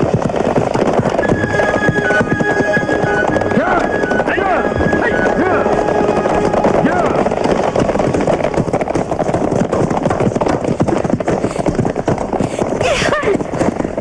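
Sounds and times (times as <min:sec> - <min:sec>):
horses galloping: 0:00.0 - 0:14.0.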